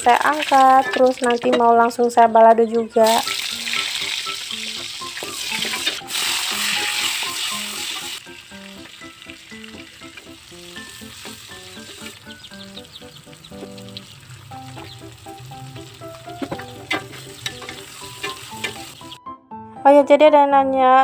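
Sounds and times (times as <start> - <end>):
chili sizzling in hot oil: 0.0 - 1.6, 3.0 - 19.2.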